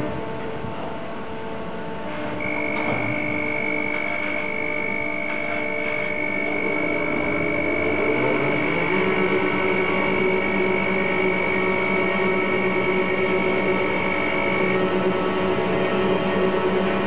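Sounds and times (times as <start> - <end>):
crane electric drives humming: 0.0 - 17.0
steady high whine: 0.0 - 17.0.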